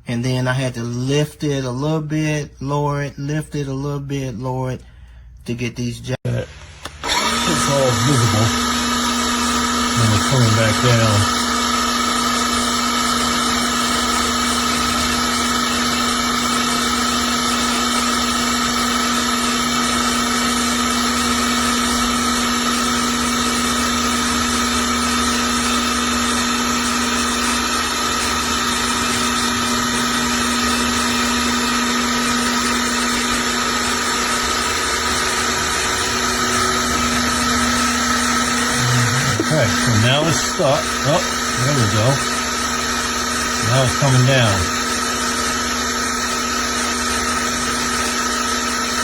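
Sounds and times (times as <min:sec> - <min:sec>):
hydraulic jack motor humming: 0:06.6 - 0:49.0.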